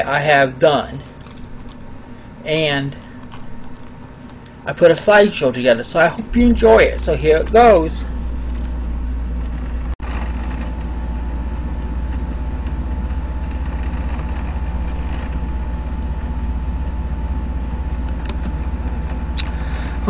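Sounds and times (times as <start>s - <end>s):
low rumbling hum: 0.0s - 20.0s.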